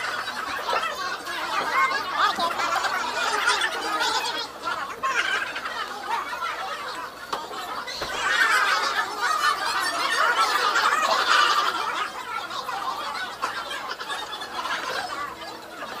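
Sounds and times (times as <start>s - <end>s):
people laughing and chattering: 0.0s - 16.0s.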